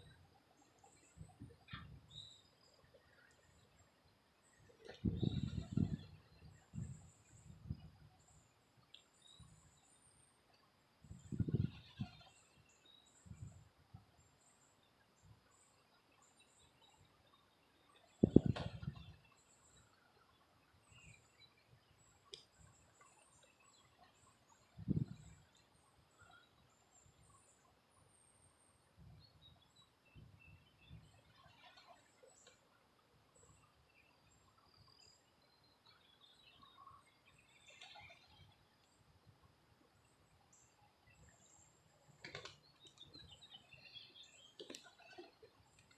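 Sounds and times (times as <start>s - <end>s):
faint outdoor ambience: 0.0s - 45.9s
small birds chirping: 0.0s - 45.9s.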